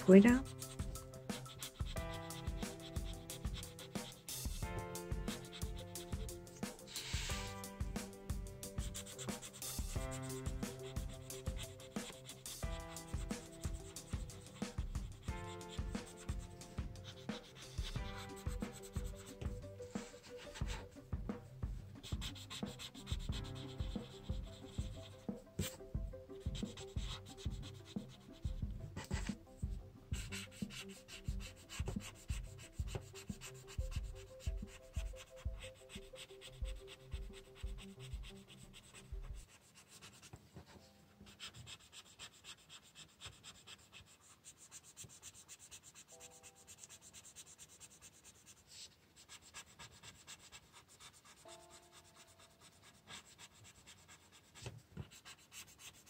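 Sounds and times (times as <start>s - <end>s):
pencil shading strokes on paper: 0.0s - 56.0s.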